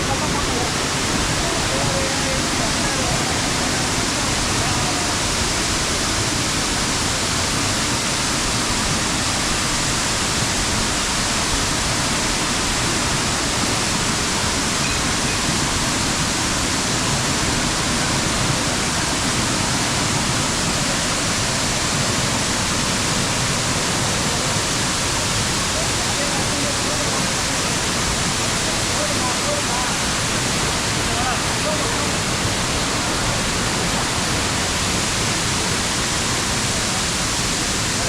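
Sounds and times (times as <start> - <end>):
waterfall pouring: 0.0 - 38.0.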